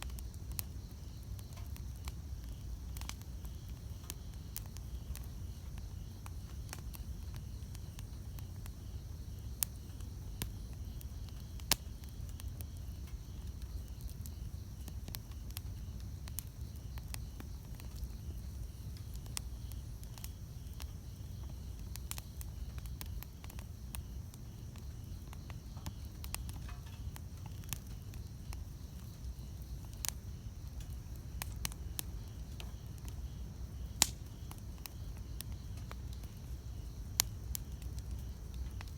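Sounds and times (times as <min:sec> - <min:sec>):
campfire rumble: 0:00.0 - 0:38.9
fire crackles and pops: 0:00.0 - 0:38.9.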